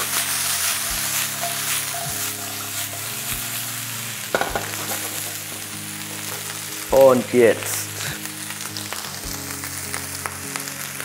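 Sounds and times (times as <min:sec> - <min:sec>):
bacon and potatoes sizzling in a pan: 0:00.0 - 0:11.0.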